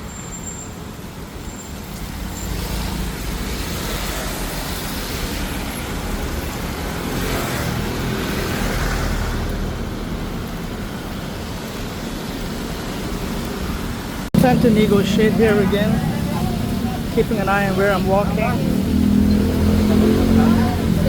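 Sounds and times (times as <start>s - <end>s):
street traffic engines rumbling: 0.0s - 21.0s.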